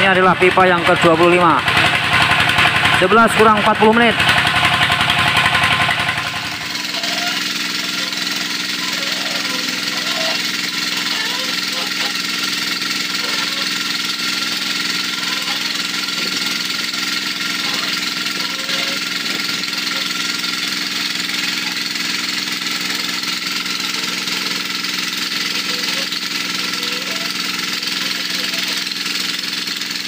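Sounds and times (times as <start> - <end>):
drilling rig engine running: 0.0 - 30.0.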